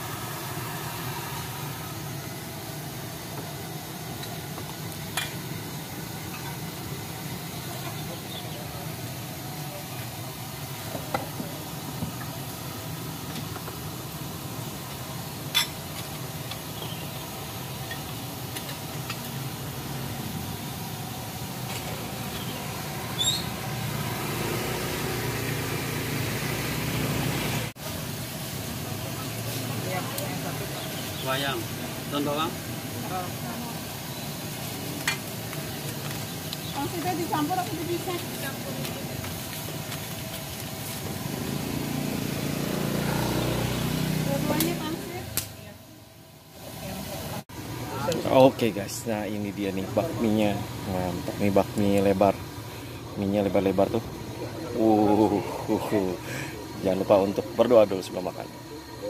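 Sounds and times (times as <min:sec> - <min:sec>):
low hum and hiss: 0:00.0 - 0:59.0.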